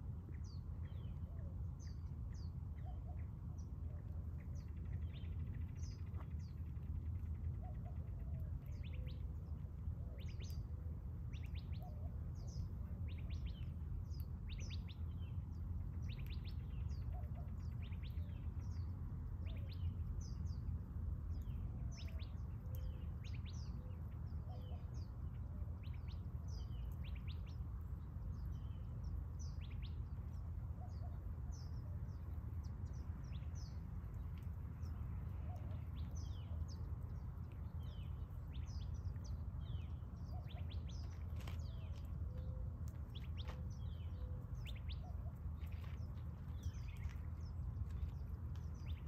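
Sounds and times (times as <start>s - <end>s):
steady low rumble: 0.0s - 49.0s
small birds chirping: 0.2s - 49.0s.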